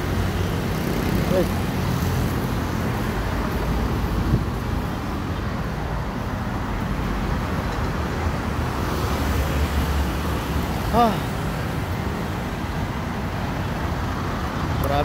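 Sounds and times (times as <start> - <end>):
heavy highway traffic rumble: 0.0 - 15.0.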